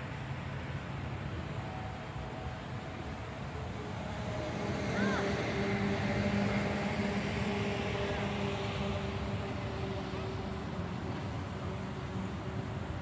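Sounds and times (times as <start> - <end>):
engine humming: 0.0 - 13.0
outdoor background noise: 0.0 - 13.0.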